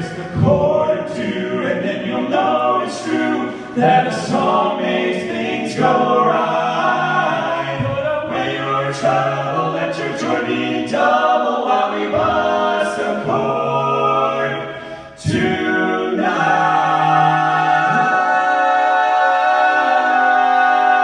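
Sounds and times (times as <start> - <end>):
male quartet singing a cappella: 0.0 - 21.0.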